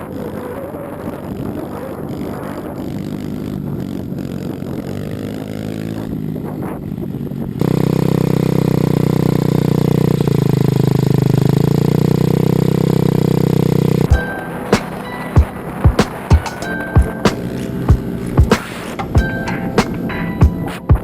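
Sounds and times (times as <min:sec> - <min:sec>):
pit bike engine revving: 0:00.0 - 0:21.0.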